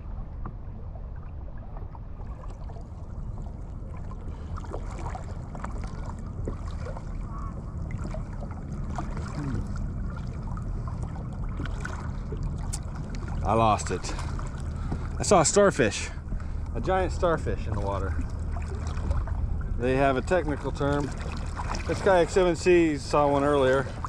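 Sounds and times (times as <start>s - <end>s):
water lapping against kayak hull: 0.0s - 24.0s
wind rumble on microphone: 0.0s - 24.0s
small splashes: 1.2s - 24.0s.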